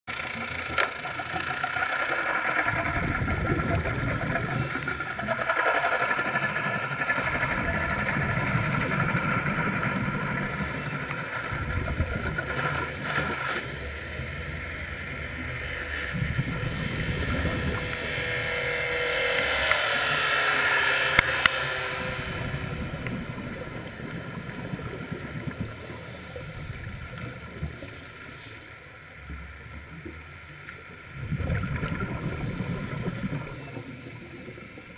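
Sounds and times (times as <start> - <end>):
muffled underwater rumble and hiss: 0.1 - 34.9.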